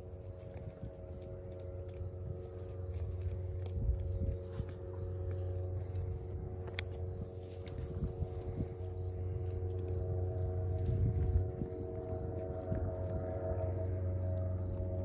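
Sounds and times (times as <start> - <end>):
sheep chewing hay: 0.0 - 15.0
steady hum: 0.0 - 15.0.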